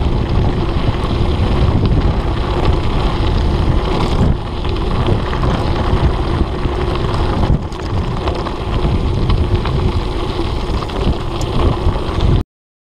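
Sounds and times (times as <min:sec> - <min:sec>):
bike rattling over stones: 0:00.0 - 0:12.4
bike tyres on gravel: 0:00.0 - 0:12.4
wind buffeting microphone: 0:00.0 - 0:12.4.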